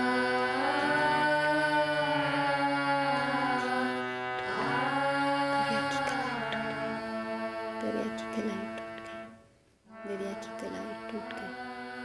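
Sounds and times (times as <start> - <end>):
person singing long sliding notes: 0.0 - 12.0.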